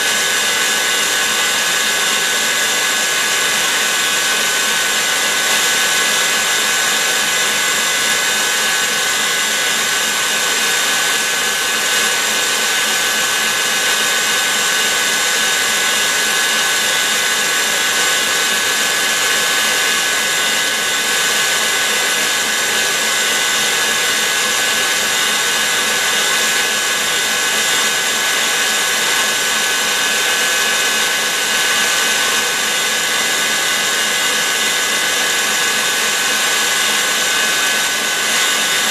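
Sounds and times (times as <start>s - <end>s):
stand mixer whisking: 0.0s - 38.9s.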